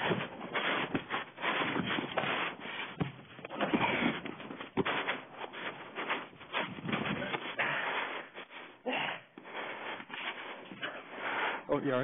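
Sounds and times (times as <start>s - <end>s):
dull thumps: 0.0s - 11.0s
clothing and bodies scraping: 0.0s - 12.0s.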